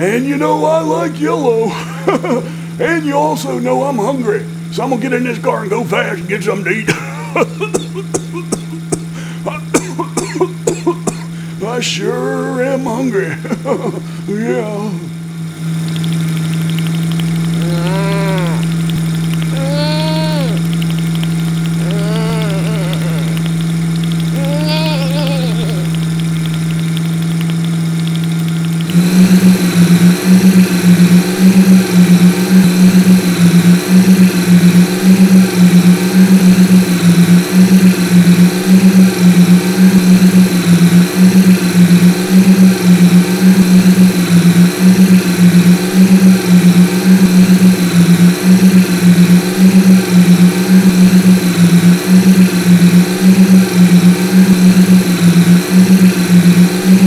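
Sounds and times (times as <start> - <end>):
cartoon engine throbbing: 0.0 - 57.0.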